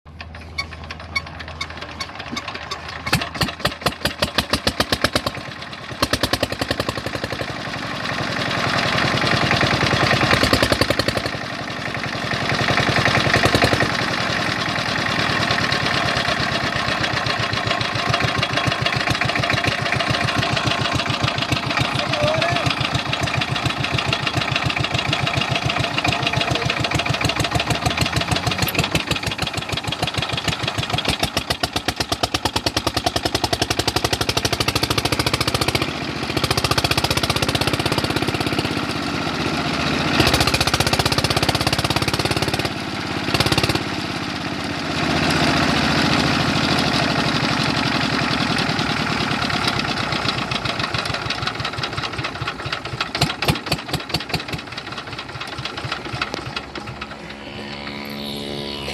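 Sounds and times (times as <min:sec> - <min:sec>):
stationary diesel engine running: 0:00.1 - 0:58.9.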